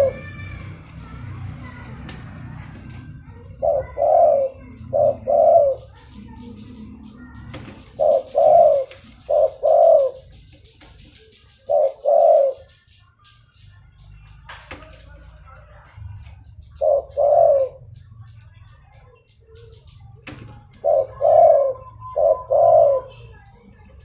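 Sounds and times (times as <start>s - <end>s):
dove cooing: 0.0s - 13.0s, 16.2s - 18.3s, 19.0s - 23.9s.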